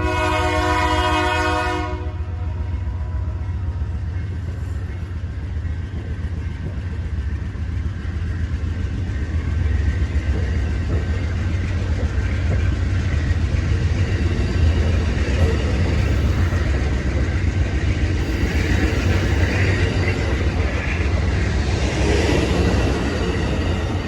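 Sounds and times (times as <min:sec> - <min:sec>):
diesel locomotive rumbling past: 0:00.0 - 0:24.0.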